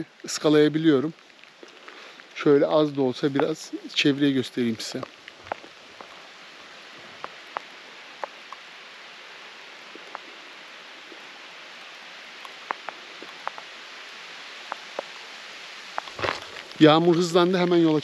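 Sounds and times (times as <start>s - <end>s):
steady rain hissing: 0.0s - 18.0s.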